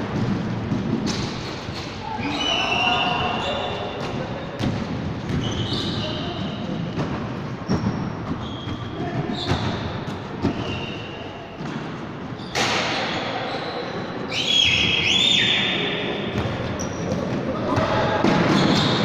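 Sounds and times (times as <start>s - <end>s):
sneaker squeaks: 1.1s - 19.0s.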